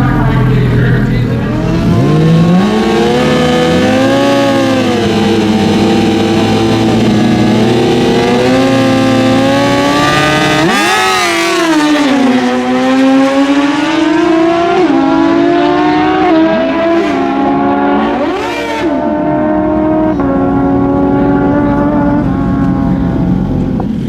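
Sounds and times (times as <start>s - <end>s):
motorcycle engines revving high: 0.0s - 24.0s.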